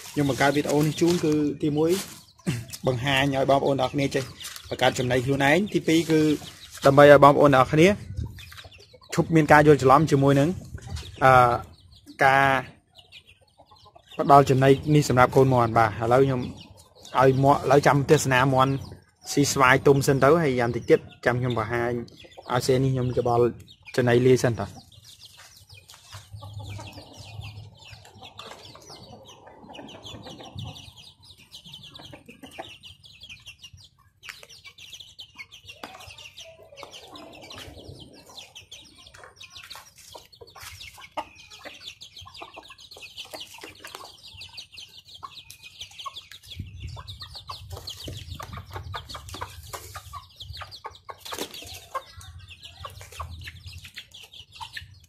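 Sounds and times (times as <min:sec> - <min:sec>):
chickens clucking softly: 0:00.0 - 0:55.0.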